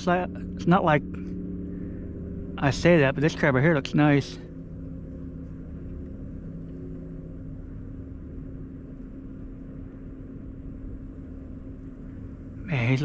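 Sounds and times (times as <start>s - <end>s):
distant engine droning: 0.0s - 13.0s.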